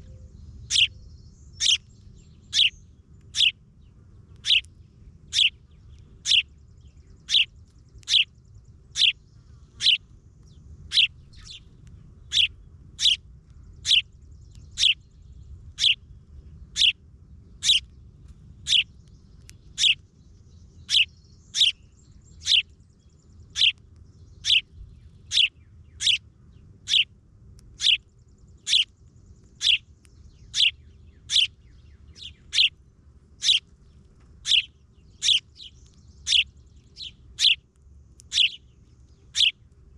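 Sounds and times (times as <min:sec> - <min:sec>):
bird chirping: 0:00.0 - 0:16.0, 0:16.6 - 0:27.1, 0:27.7 - 0:39.8.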